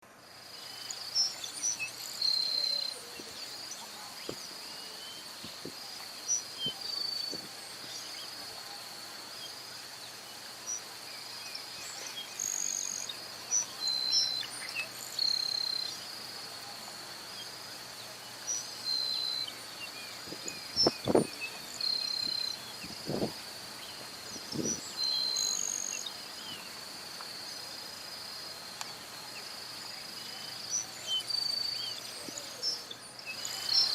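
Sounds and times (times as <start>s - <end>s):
insect chorus: 0.1s - 33.9s.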